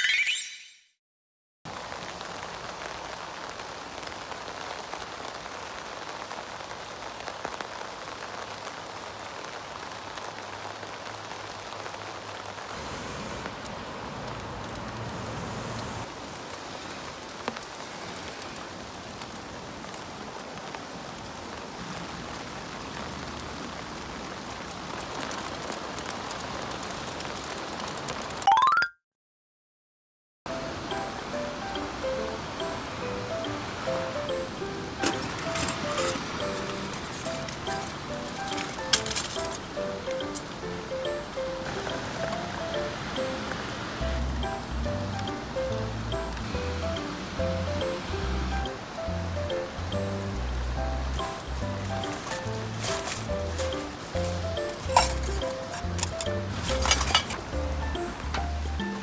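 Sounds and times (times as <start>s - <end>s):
heavy rain falling: 1.7s - 28.4s, 30.5s - 59.0s.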